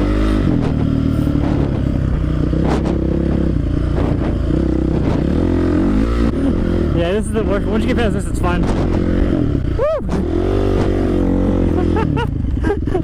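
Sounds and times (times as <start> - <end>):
knocks and scrapes from bike: 0.0 - 6.4, 7.2 - 11.3
dirt bike engine running: 0.0 - 13.0.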